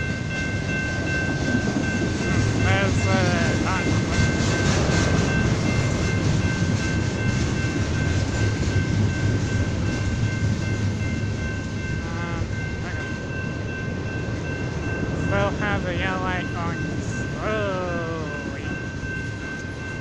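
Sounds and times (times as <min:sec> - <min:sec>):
freight train rumble: 0:00.0 - 0:20.0
high ringing tone: 0:00.0 - 0:20.0.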